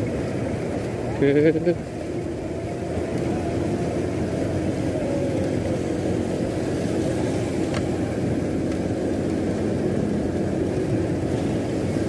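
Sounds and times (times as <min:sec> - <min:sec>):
motorcycle engine hum: 0:00.0 - 0:12.0.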